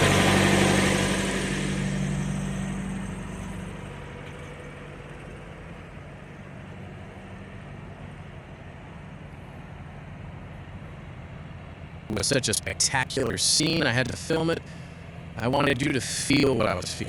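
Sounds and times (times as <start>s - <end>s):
diesel truck engines idling: 0.0s - 17.0s.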